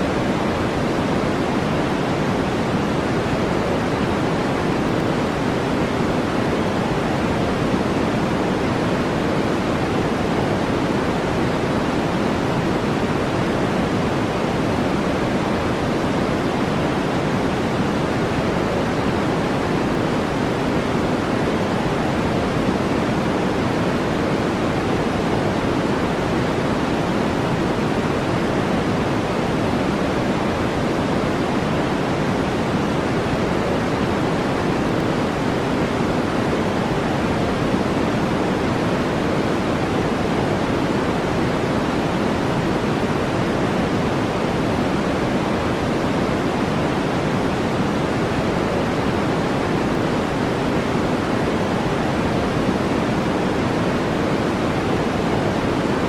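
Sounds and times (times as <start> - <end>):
brown noise hiss: 0.0 - 56.0.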